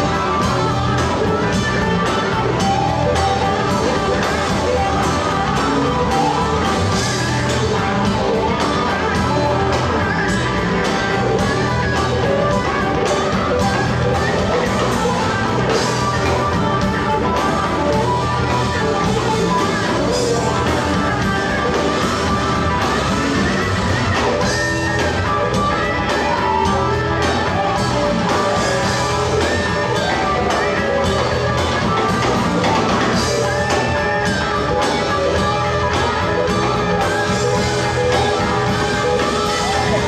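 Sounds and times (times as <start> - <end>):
bass guitar: 0.0 - 40.0
drums: 0.0 - 40.0
electric guitar lead: 0.0 - 40.0.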